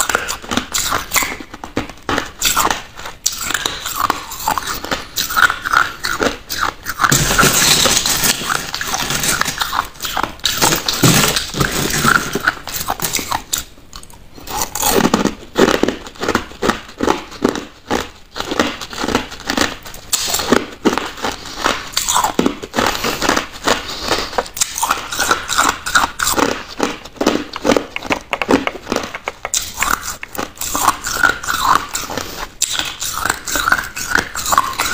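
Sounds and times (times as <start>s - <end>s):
ice crunching between teeth: 0.0s - 34.9s.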